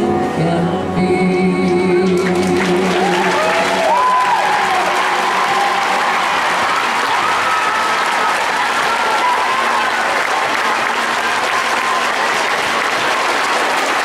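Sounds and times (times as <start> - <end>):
crowd applauding: 2.0 - 14.0.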